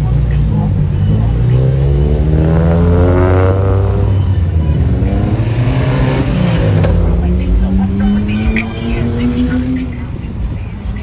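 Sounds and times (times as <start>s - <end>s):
low rumble of running cars: 0.0s - 11.0s.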